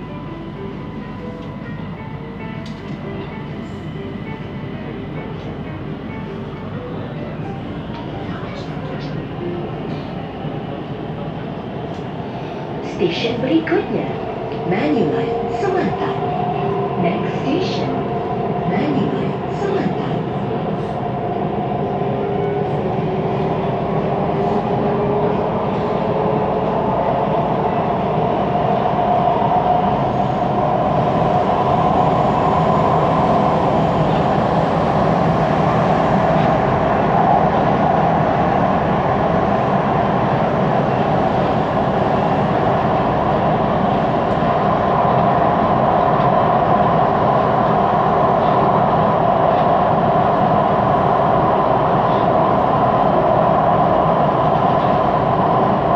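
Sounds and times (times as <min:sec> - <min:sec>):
metro train rolling and humming: 0:00.0 - 0:55.9.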